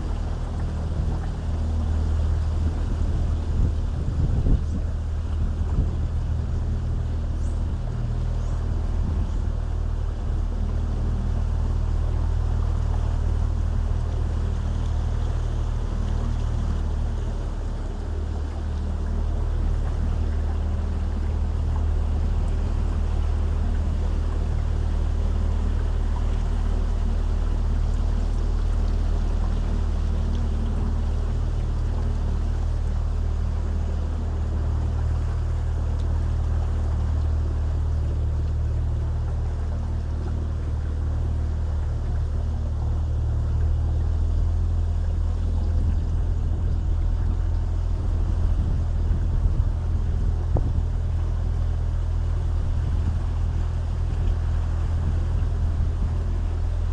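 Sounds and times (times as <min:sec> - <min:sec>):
boat motor droning: 0:00.0 - 0:56.9
water and hull noise: 0:00.0 - 0:56.9.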